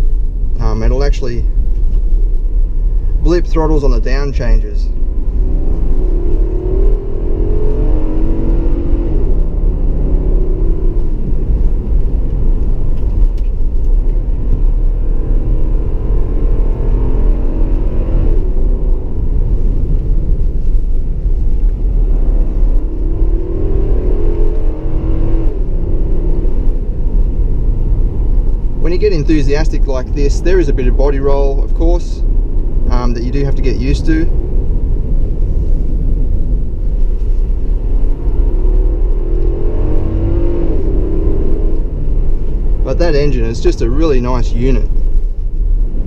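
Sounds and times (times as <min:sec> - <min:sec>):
car engine accelerating: 0:00.0 - 0:46.0.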